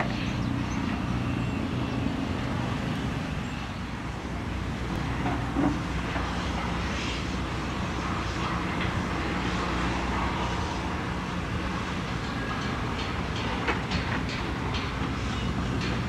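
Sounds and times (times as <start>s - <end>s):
heavy machinery diesel engines droning: 0.0s - 16.0s.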